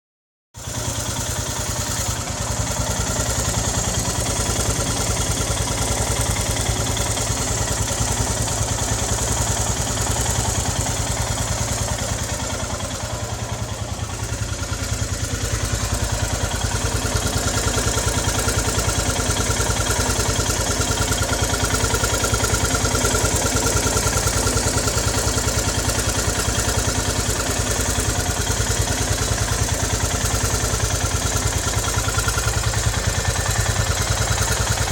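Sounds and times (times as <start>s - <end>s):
motorcycle engine idling: 0.6s - 34.9s.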